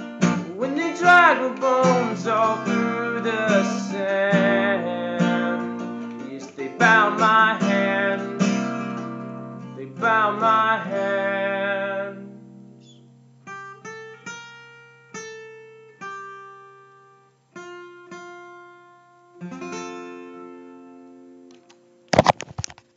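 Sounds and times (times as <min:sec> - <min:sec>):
acoustic guitar strumming and plucking: 0:00.0 - 0:22.8.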